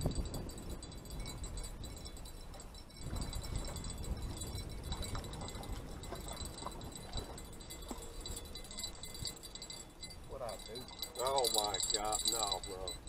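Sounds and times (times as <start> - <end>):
faint high tinkling: 0.0 - 13.0
wind buffeting microphone: 0.0 - 13.0.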